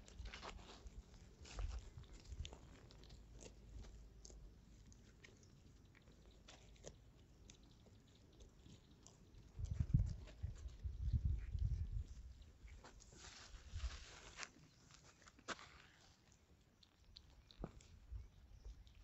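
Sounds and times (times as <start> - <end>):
crunching in dry brush: 0.0 - 19.0.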